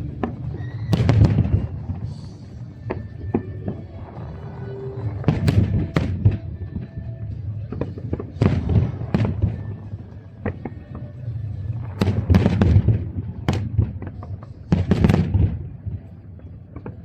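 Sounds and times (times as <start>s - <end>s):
continuous low rumble: 0.0s - 17.0s
fireworks bangs and crackles: 0.0s - 17.0s.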